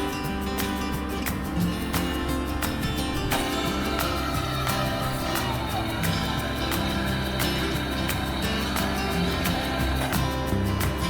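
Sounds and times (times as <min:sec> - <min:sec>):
guitar music with steady beat: 0:00.0 - 0:11.0.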